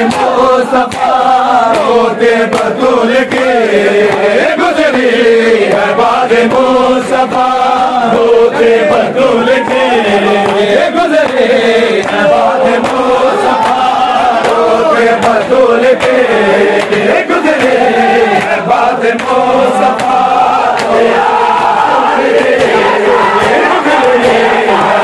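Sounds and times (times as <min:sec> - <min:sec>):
hands slapping on chests: 0:00.0 - 0:08.2, 0:08.9 - 0:25.0
men chanting in unison: 0:00.0 - 0:25.0.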